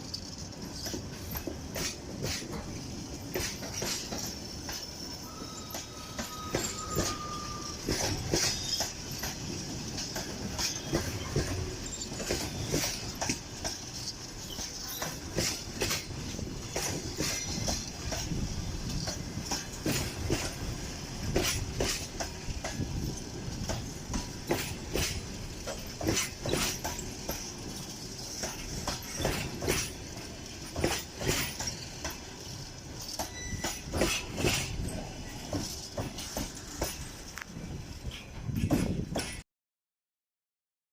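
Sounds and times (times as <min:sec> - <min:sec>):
train rolling past: 0:00.0 - 0:39.4
wheels clicking over rail joints: 0:00.0 - 0:39.4.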